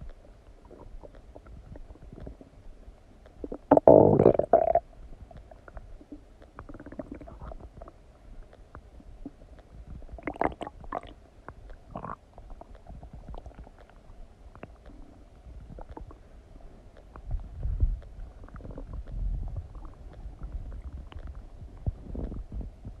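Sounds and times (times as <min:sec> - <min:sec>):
stomach gurgling and rumbling: 0:00.0 - 0:23.0.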